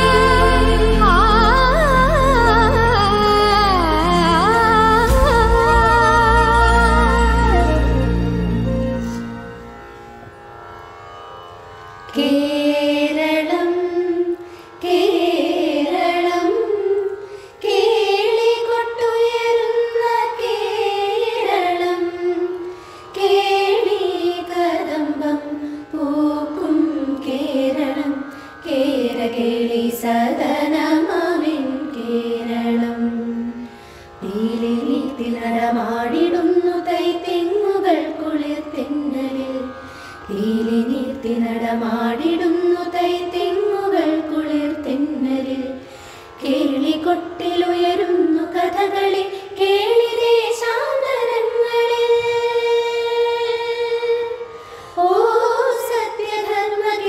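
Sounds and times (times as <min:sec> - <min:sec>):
women singing in unison: 0:00.0 - 0:09.2, 0:12.1 - 0:57.0.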